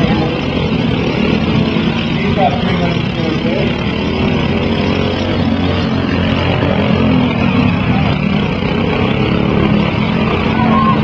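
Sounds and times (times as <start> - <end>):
lawn mower engines humming: 0.0 - 11.0.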